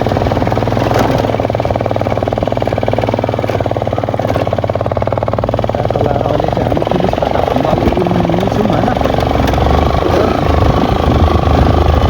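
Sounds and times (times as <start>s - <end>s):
single-cylinder motorcycle engine: 0.0s - 12.0s.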